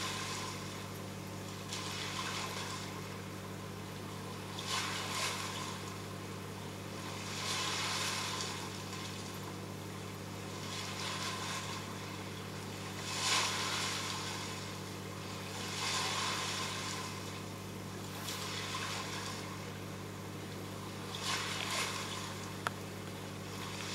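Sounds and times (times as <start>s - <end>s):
aquarium pumps humming: 0.0s - 23.9s.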